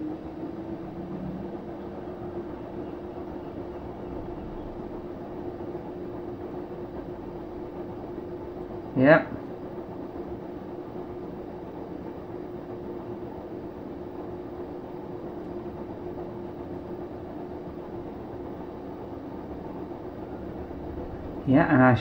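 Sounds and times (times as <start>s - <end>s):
washing machine drum spinning: 0.0s - 22.0s.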